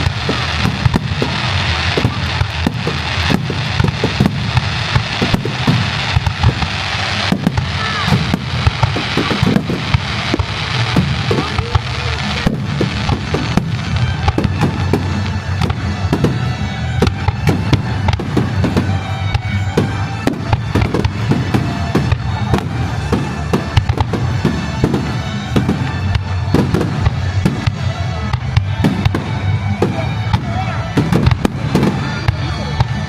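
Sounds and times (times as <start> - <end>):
fireworks bursting and crackling: 0.0 - 33.0
music playing: 0.0 - 33.0.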